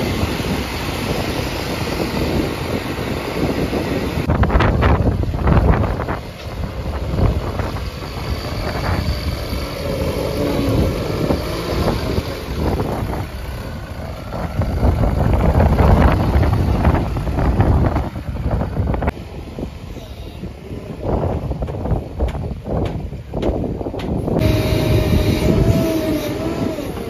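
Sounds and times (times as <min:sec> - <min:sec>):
diesel engine under load: 0:00.0 - 0:27.0
wind buffeting microphone: 0:00.0 - 0:27.0.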